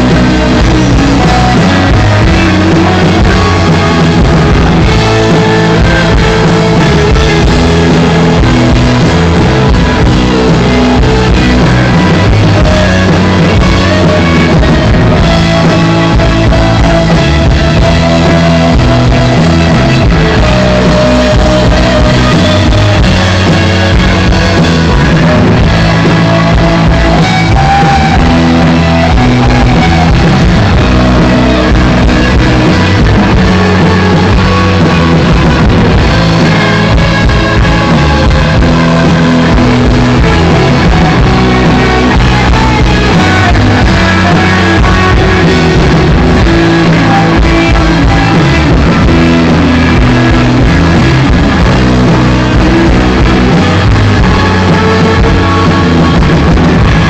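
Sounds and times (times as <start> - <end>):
rock band with electric guitars: 0.0 - 57.0.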